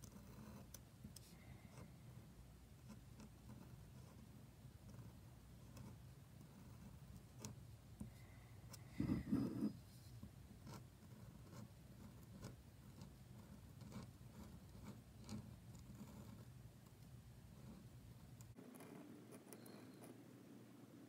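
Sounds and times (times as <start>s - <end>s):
pen nib scratching on paper: 0.0s - 2.0s, 2.8s - 20.2s.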